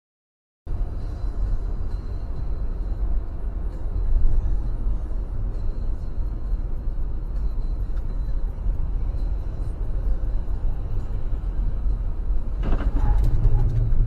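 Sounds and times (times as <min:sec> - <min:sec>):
car driving rumble: 0:00.7 - 0:14.0.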